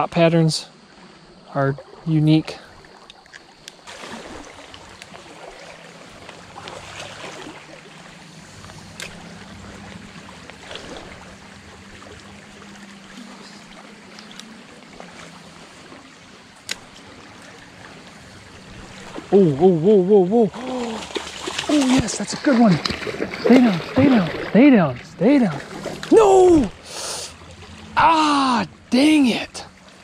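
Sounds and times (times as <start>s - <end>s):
creek water rippling: 0.0s - 30.0s.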